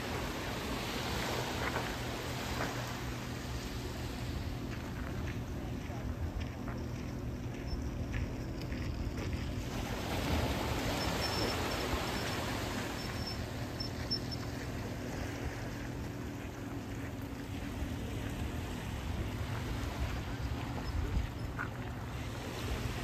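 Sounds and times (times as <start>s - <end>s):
rushing water-like noise: 0.0s - 6.6s, 7.5s - 23.0s.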